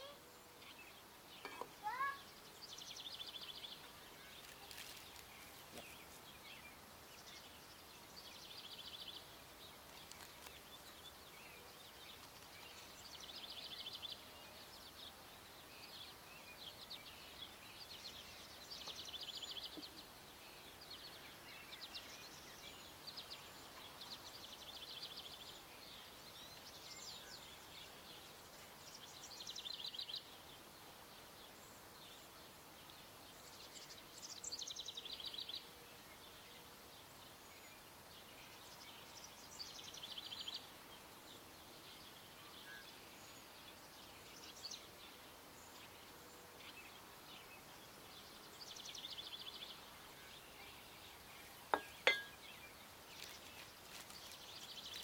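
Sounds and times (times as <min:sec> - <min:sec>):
faint outdoor hiss: 0:00.0 - 0:55.0
songbird song with trill: 0:00.0 - 0:55.0.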